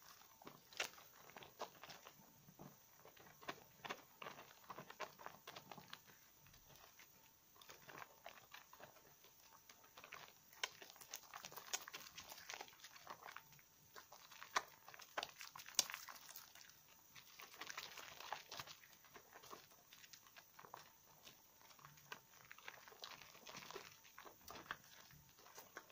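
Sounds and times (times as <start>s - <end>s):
soap lather squishing: 0.0s - 25.9s.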